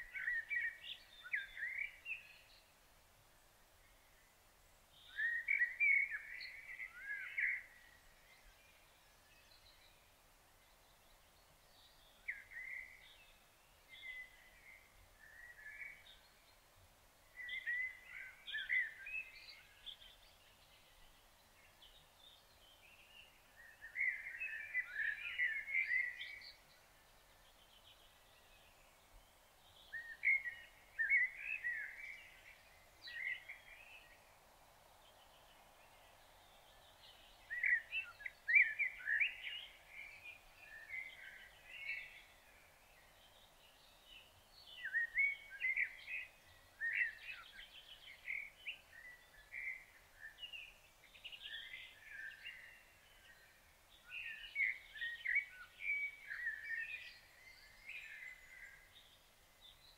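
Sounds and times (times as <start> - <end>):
faint outdoor hiss: 0.0 - 59.9
songbird singing: 0.0 - 59.9.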